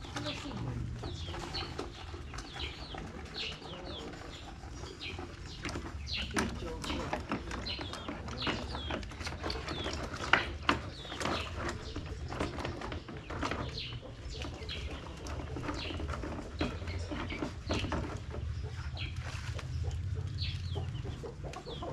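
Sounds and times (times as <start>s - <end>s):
chickens clucking: 0.0s - 21.9s.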